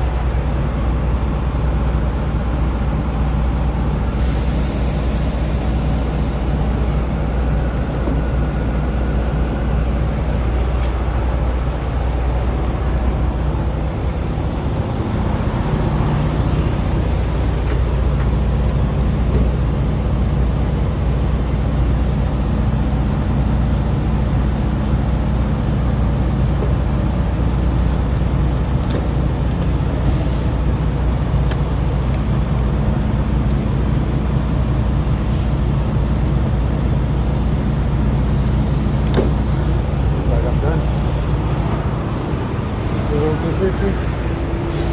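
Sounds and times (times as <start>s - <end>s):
truck engine humming: 0.0s - 44.9s.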